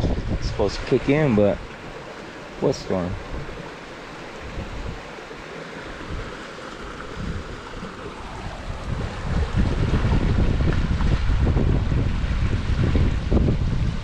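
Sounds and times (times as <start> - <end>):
wind buffeting microphone: 0.0 - 2.2, 2.9 - 5.2, 5.8 - 14.0
creek water running over rocks: 0.0 - 14.0.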